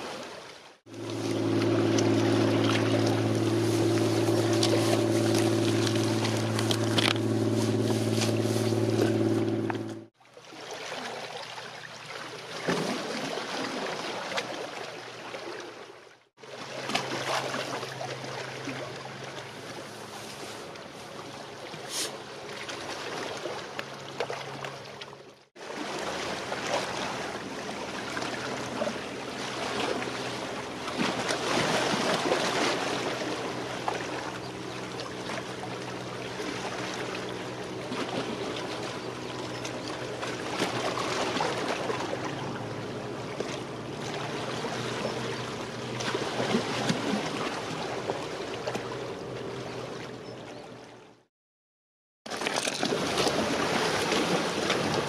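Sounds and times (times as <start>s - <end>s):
waves lapping at shore: 0.0s - 51.0s, 52.3s - 55.0s
faint low engine hum: 0.9s - 10.1s, 16.4s - 51.3s, 52.8s - 55.0s
boat engine running: 0.9s - 10.2s, 16.4s - 51.3s, 52.3s - 55.0s.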